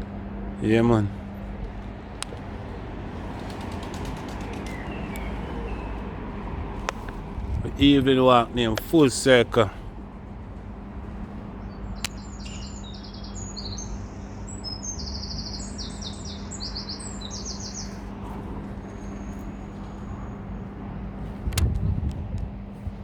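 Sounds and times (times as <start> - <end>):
steady low hum: 0.0 - 23.0
songbird singing: 1.3 - 9.4, 10.6 - 21.0.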